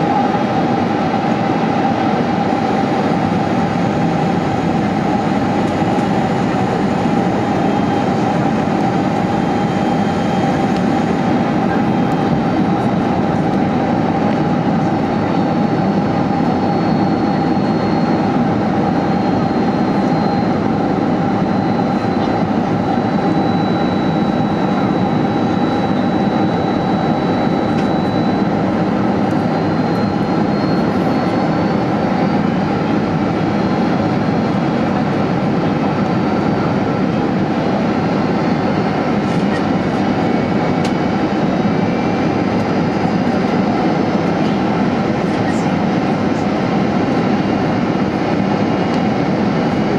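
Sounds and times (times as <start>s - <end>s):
jet cabin engine and airflow roar: 0.0s - 49.9s.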